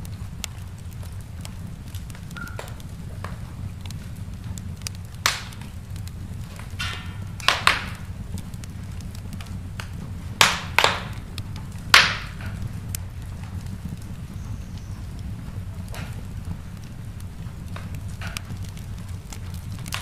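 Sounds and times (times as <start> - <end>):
sharp pops from fire: 0.0 - 20.0
wood fire crackling: 0.0 - 20.0.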